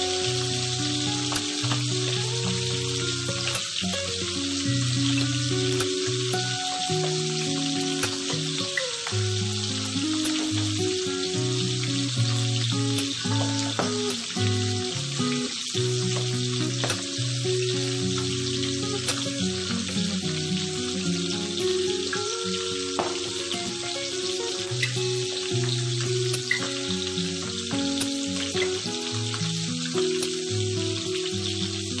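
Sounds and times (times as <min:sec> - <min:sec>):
background music: 0:00.0 - 0:32.0
fish sizzling in hot oil: 0:00.0 - 0:32.0.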